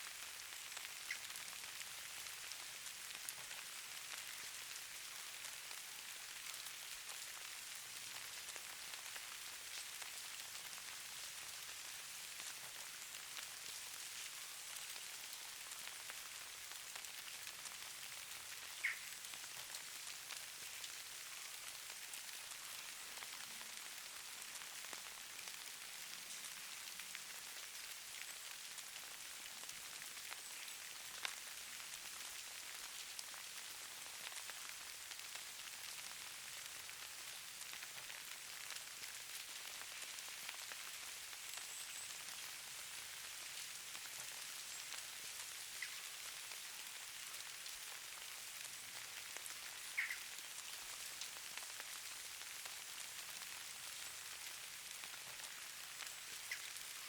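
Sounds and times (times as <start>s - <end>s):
falling snow hiss and patter: 0.0s - 57.0s.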